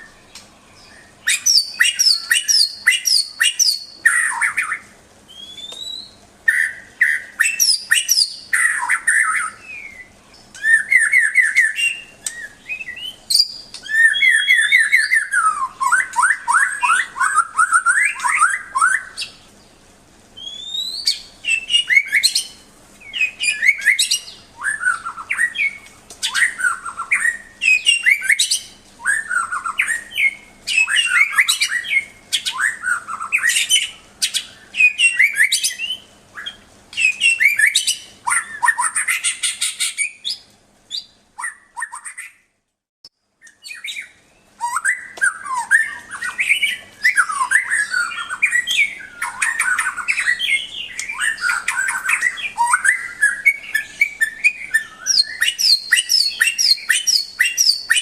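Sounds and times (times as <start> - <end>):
bird singing trills and whistles: 0.0 - 19.8, 20.4 - 42.5, 43.4 - 58.0.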